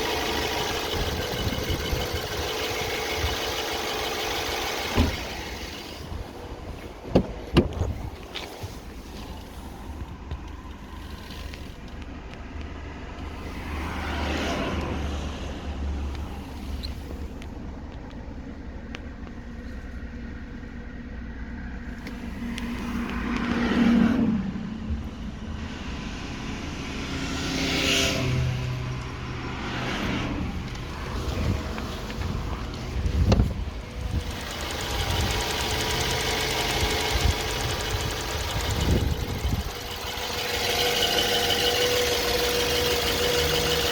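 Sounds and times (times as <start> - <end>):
car engine running: 0.0 - 14.0, 15.4 - 23.6, 28.8 - 43.9.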